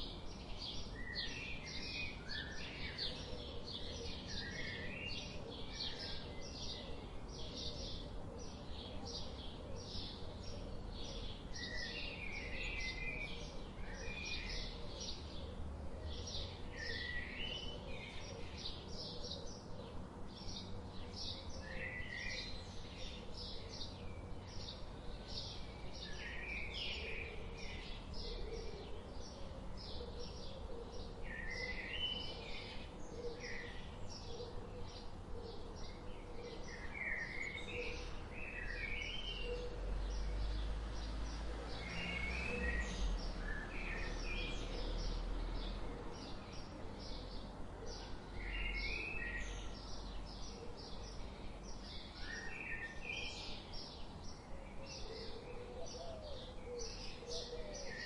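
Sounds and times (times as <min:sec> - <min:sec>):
songbirds chirping and warbling: 0:00.0 - 0:58.0.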